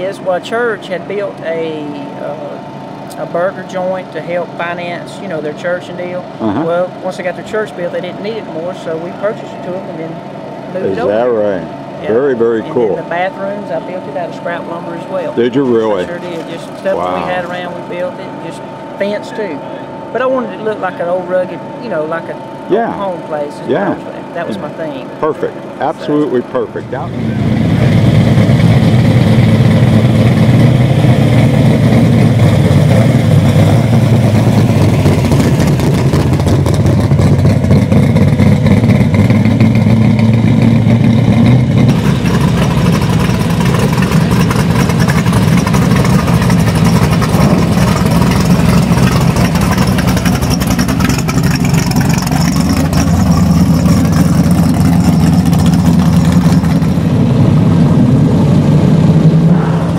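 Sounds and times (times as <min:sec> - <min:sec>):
race car engines idling and revving: 0:00.0 - 0:59.9.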